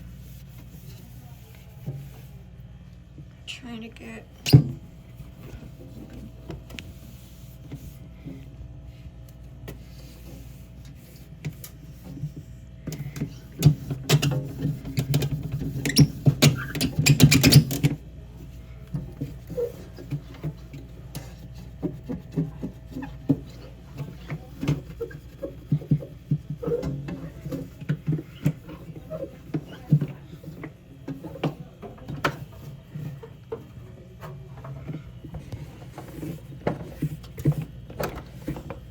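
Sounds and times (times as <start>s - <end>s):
hands scrubbing fridge: 0.0s - 2.6s, 5.1s - 9.0s, 9.6s - 38.9s.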